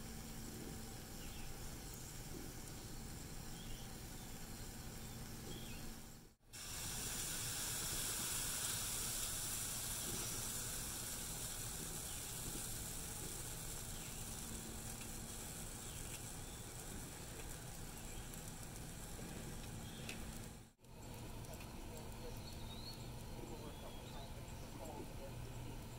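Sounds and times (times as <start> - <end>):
batter sizzling on griddle: 0.0 - 25.9.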